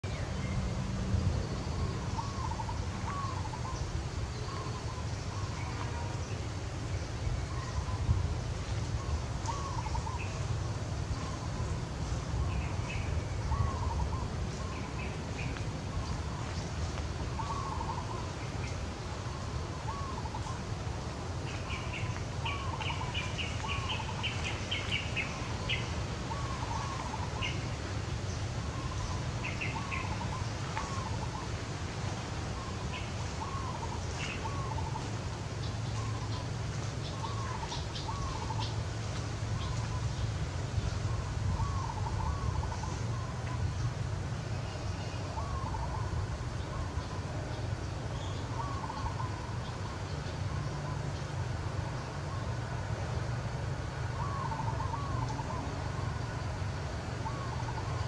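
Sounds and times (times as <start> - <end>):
bird arched calls: 1.7 - 6.5, 8.9 - 43.9, 44.6 - 51.4, 54.2 - 56.2, 57.2 - 58.0.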